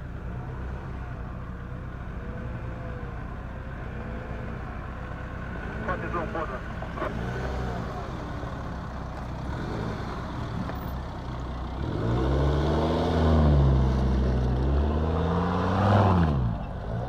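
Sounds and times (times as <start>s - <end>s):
vehicle engine idling and revving: 0.0s - 17.0s.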